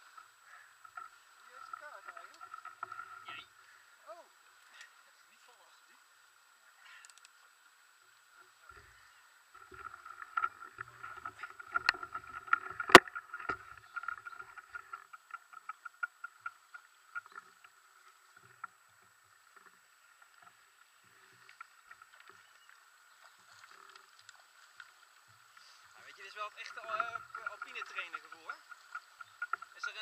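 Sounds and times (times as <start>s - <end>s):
faint clicks: 0.1s - 3.8s, 4.5s - 5.0s, 6.8s - 7.5s, 8.4s - 30.0s.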